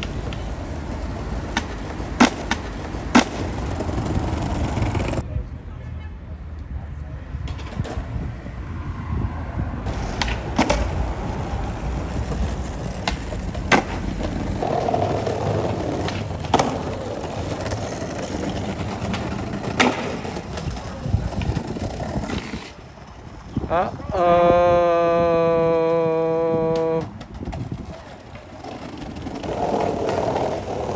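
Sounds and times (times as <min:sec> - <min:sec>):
skateboard clacking: 0:00.0 - 0:05.2, 0:09.8 - 0:30.9
skateboard wheels rolling on pavement: 0:00.0 - 0:05.3, 0:06.4 - 0:30.9.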